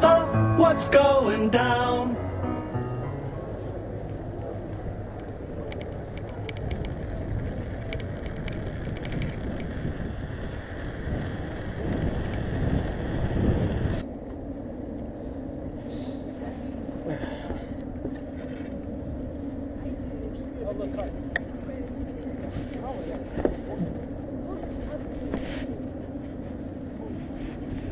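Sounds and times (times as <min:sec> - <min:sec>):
faint voices: 0:00.0 - 0:13.0, 0:13.9 - 0:27.9
steady hum: 0:00.0 - 0:27.9
deep rumble of bike: 0:03.0 - 0:27.9
bicycle tyres rattling over cobblestones: 0:03.5 - 0:27.9.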